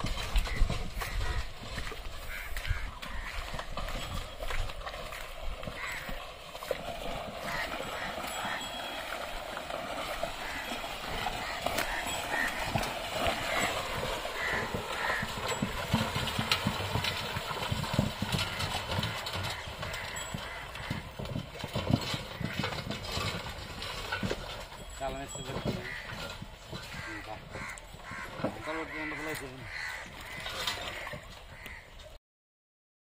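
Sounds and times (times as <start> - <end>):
splashing of hooves and wheels: 0.0 - 32.2.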